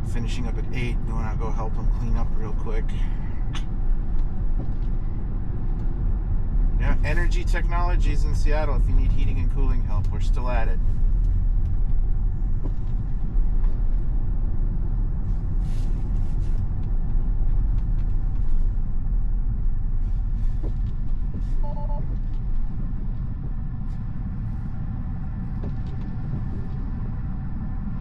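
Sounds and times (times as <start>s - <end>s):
road and wind noise in car: 0.0s - 28.0s.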